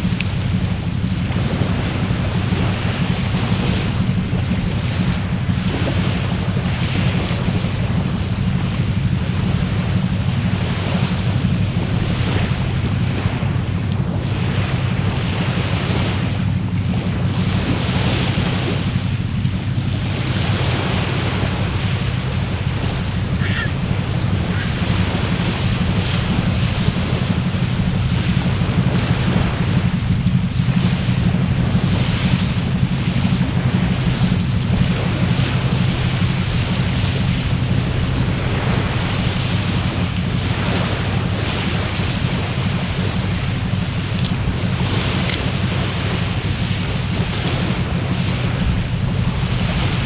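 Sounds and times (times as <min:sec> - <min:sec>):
wind on microphone: 0:00.0 - 0:50.0.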